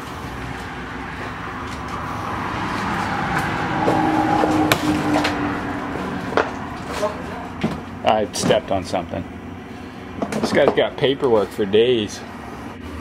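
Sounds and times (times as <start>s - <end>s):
vehicle droning: 0.0s - 13.0s.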